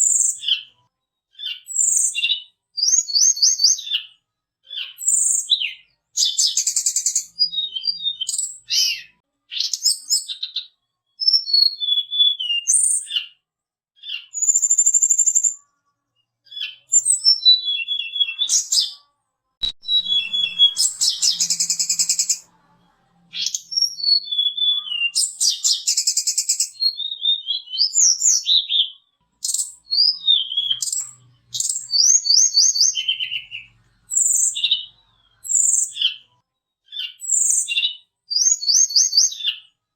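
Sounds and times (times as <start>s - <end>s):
songbird singing whistles and trills: 0.0s - 13.4s, 14.0s - 15.6s, 16.5s - 19.0s, 19.6s - 22.5s, 23.3s - 39.8s.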